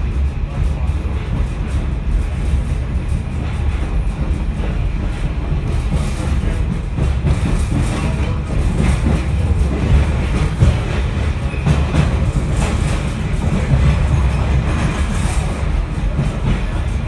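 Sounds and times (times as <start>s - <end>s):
rail car rumbling: 0.0s - 17.0s
wheel clacks: 1.0s - 17.0s.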